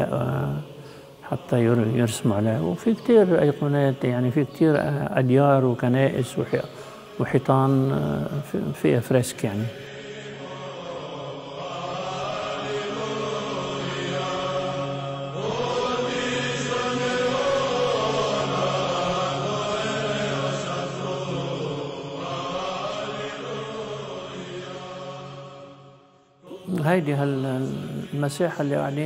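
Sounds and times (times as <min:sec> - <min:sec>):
slow chanted singing: 0:00.0 - 0:29.0.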